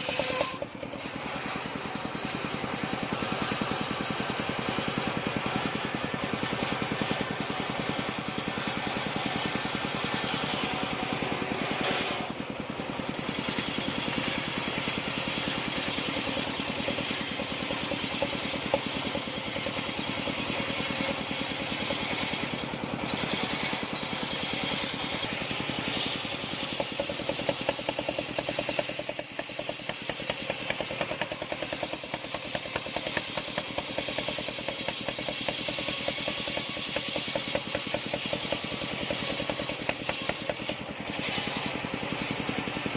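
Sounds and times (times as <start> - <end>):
engine-driven circular saw running: 0.0 - 42.9.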